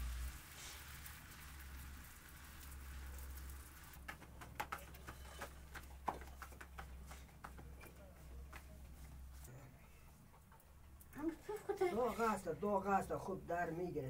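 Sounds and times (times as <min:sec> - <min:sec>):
faint patter-like hiss: 0:00.0 - 0:14.0.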